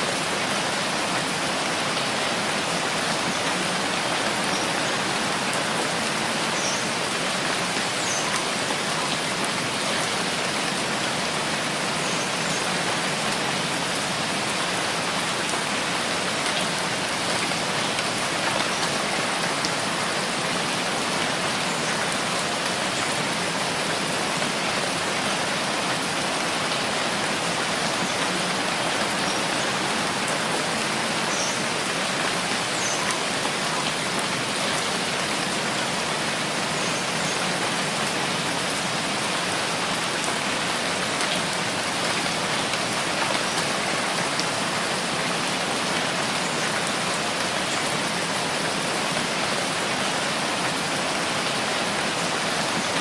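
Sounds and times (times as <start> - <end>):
steady rainfall: 0.0 - 53.0.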